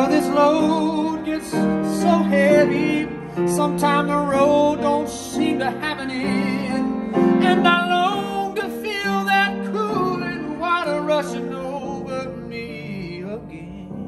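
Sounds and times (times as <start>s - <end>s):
grand piano chords: 0.0s - 14.0s
person singing with vibrato: 0.0s - 14.0s.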